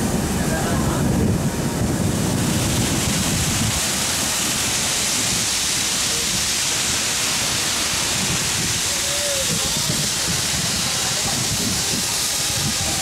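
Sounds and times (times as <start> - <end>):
steam locomotive hissing steam: 1.9 - 13.0.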